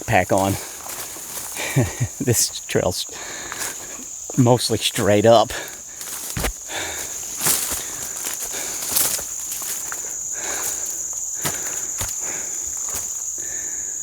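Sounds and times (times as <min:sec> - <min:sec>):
footsteps crunching on trail: 0:00.0 - 0:13.8
insects droning: 0:00.0 - 0:14.0.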